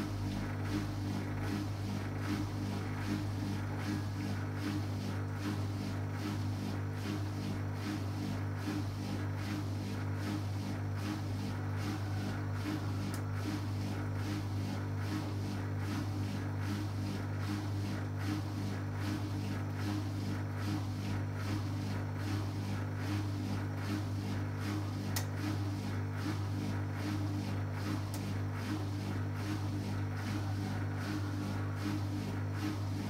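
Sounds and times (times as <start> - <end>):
washing machine running: 0.0 - 33.0.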